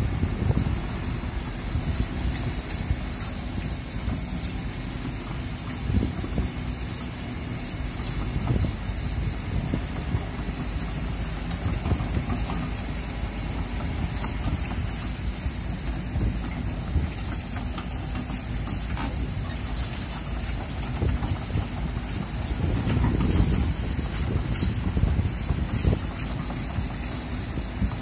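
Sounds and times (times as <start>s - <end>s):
excavator diesel engine running: 0.0s - 28.0s
wind buffeting microphone: 0.0s - 28.0s.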